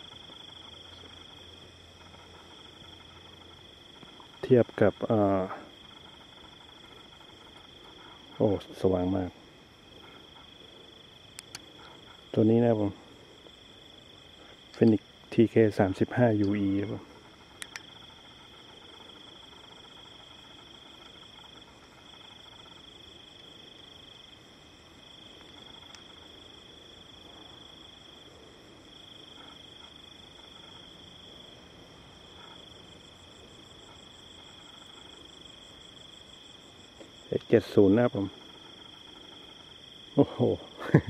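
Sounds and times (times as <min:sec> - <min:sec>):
crickets chirring: 0:00.0 - 0:41.0.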